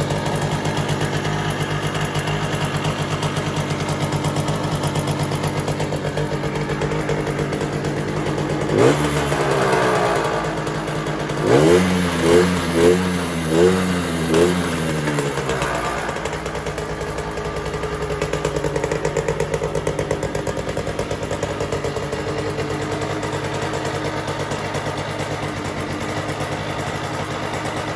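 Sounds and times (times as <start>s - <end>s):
moped engine revving and idling: 0.0s - 27.9s.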